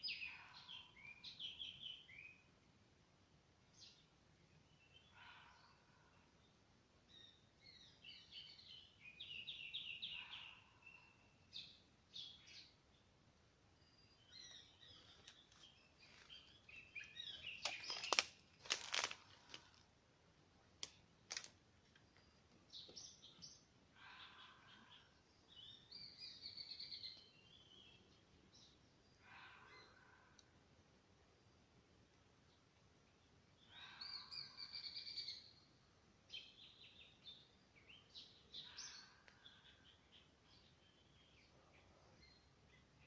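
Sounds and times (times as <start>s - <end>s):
small birds chirping: 0.0s - 2.6s, 3.6s - 19.9s, 20.8s - 30.6s, 31.4s - 43.0s.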